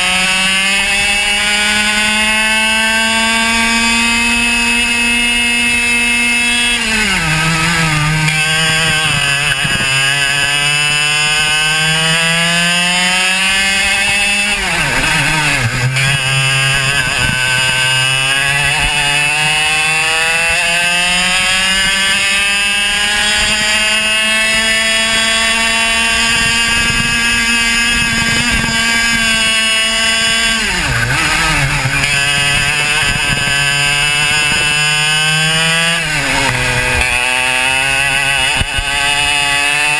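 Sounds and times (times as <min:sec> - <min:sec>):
racing kart engine at full throttle: 0:00.0 - 0:39.9.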